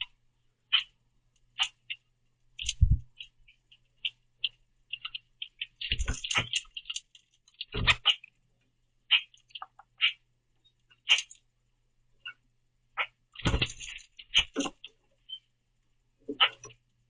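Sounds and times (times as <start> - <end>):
beaks pecking seeds: 0.0 - 8.4, 9.0 - 11.5, 12.2 - 15.5, 16.2 - 16.9.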